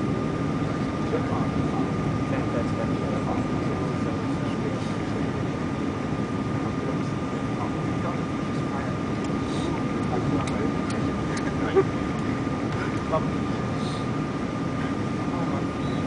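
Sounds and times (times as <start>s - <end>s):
airliner cabin engine rush: 0.0s - 16.0s
thin steady whine: 0.0s - 16.0s.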